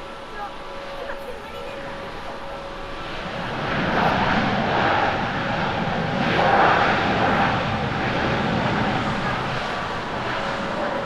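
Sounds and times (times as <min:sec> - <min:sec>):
jet engines roaring on landing: 0:00.0 - 0:11.0.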